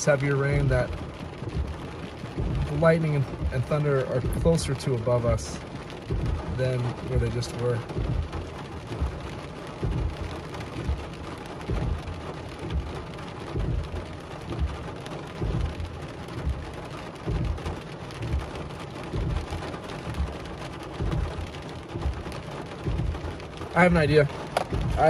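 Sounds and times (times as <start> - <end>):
rain drumming on car roof: 0.0 - 25.0
soft low thump: 0.5 - 4.9, 5.6 - 23.4, 24.3 - 25.0.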